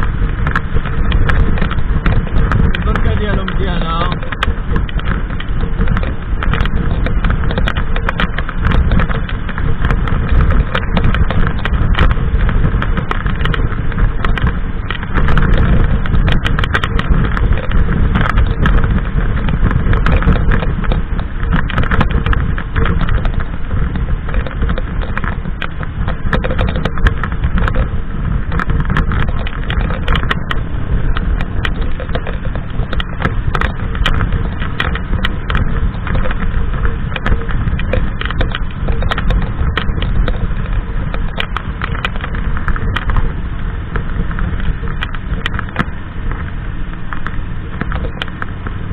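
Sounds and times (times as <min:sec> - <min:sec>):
motorcycle engine cruising: 0:00.0 - 0:48.9
wind rush on microphone: 0:00.0 - 0:48.9.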